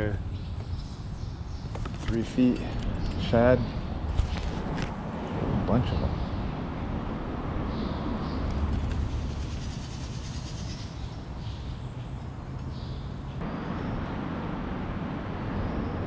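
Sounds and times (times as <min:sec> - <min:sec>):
traffic rumble over bridge: 0:00.0 - 0:16.0.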